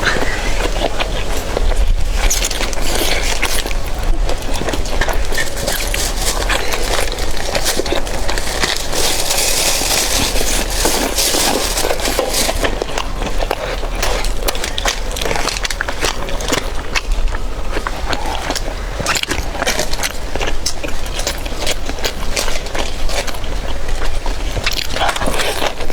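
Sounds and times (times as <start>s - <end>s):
wet chewing and crunching: 0.0s - 25.9s.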